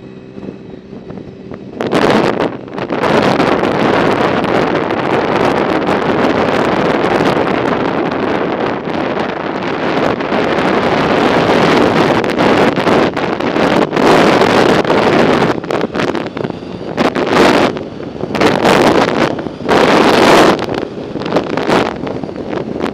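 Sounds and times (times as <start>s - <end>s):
wind on microphone: 0.0s - 22.9s.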